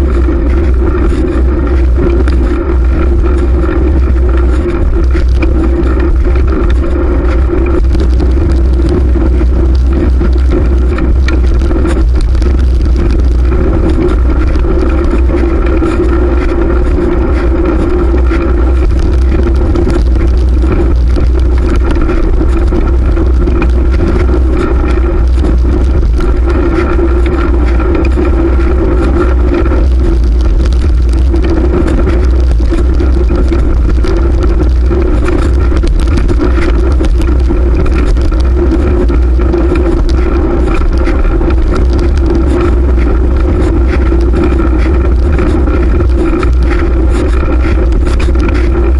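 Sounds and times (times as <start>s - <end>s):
constant hum: 0.0s - 48.9s
low rumble: 0.0s - 48.9s
road and tyre noise: 0.0s - 48.9s
wind rush on microphone: 0.0s - 48.9s.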